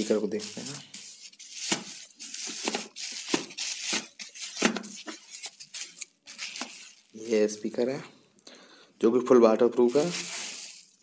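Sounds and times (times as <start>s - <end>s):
packaging rustling and crinkling: 0.0s - 8.0s, 9.8s - 11.0s.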